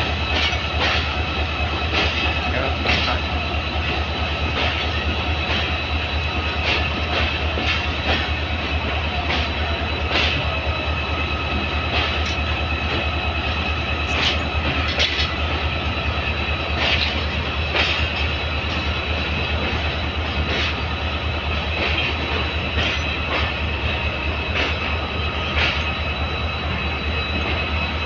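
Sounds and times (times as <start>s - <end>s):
locomotive engine rumbling and whining: 0.0s - 28.0s.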